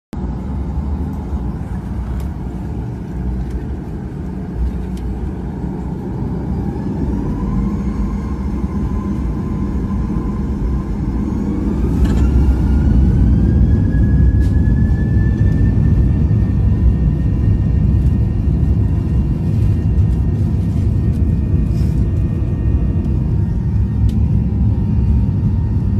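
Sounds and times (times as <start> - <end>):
jet engine rumble and whine: 0.2 - 25.9.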